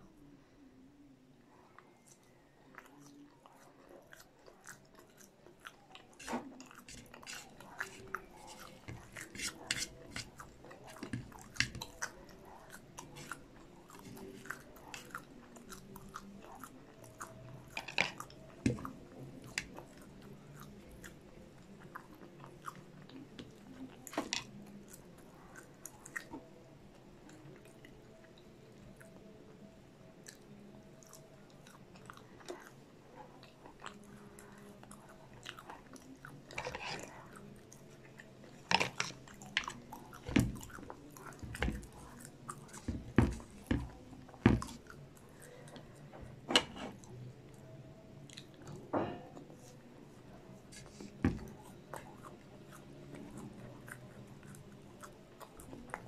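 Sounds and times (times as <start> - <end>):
crunchy chewing: 1.5 - 56.0.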